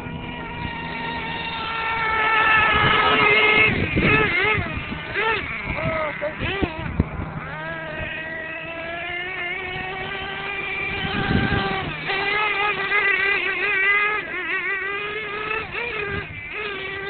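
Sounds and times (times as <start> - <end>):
small fuel engine buzzing: 0.0 - 17.0.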